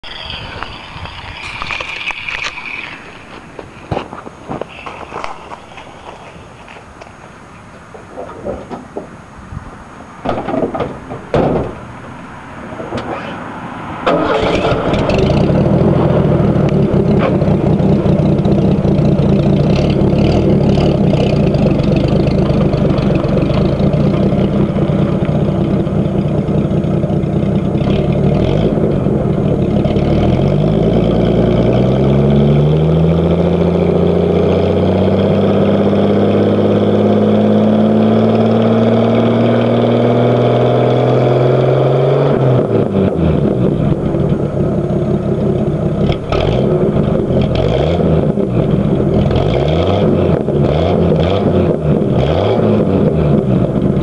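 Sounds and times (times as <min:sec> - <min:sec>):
truck engine revving: 0:10.8 - 0:54.0.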